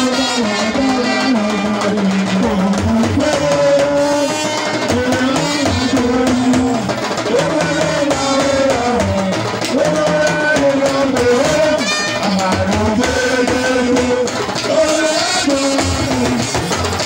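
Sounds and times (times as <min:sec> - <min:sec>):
hand drums: 0:00.0 - 0:17.0
talking drum beaten with stick: 0:00.0 - 0:17.0.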